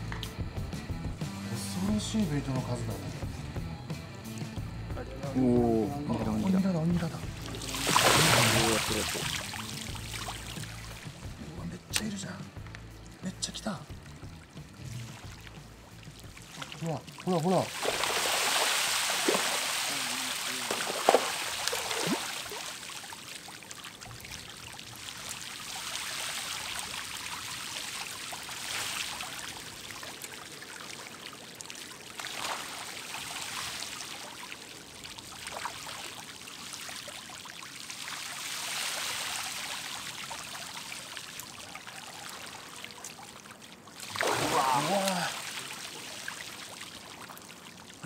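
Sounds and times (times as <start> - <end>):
water splashing and fizzing: 5.3 - 48.0.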